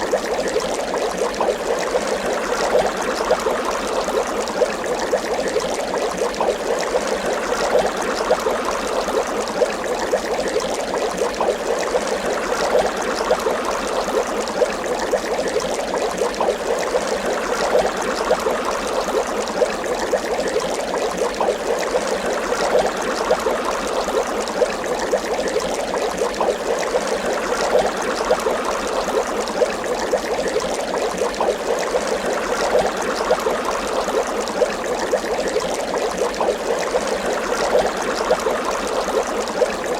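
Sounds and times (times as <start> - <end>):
water bubbling: 0.0 - 39.9.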